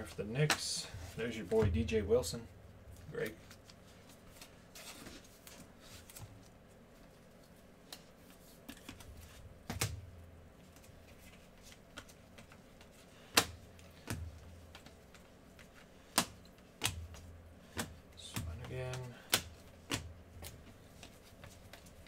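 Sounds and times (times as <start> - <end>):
cards shuffling: 3.0 - 10.0, 10.6 - 22.0.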